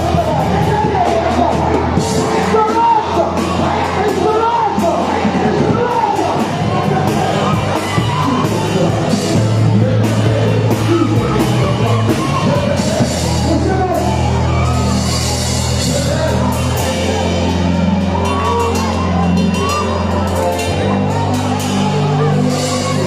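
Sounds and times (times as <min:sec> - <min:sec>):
loud music with singing: 0:00.0 - 0:23.0
low bass notes: 0:00.0 - 0:23.0.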